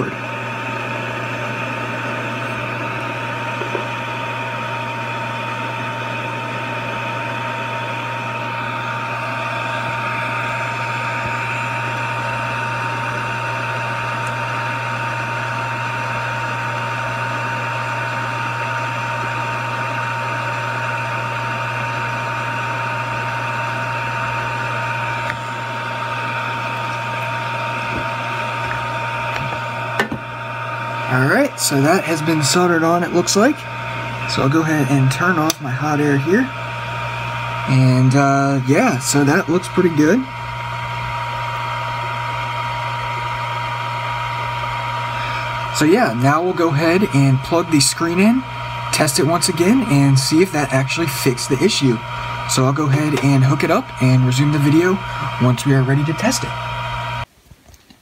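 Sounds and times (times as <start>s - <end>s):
hot air station blowing: 0.0s - 57.3s
low hum: 0.0s - 57.3s.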